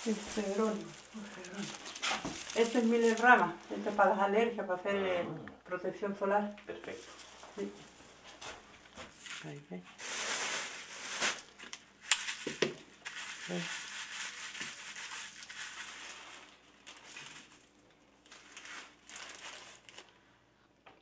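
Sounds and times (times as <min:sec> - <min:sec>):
plastic bag crinkling: 0:00.0 - 0:04.5, 0:06.7 - 0:20.2
dried herbs rustling: 0:00.0 - 0:04.7, 0:06.7 - 0:20.2.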